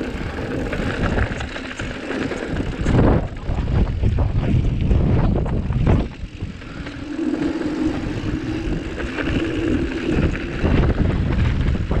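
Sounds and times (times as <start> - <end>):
tyres rumbling over dirt: 0.0 - 12.0
wind buffeting microphone: 0.0 - 12.0.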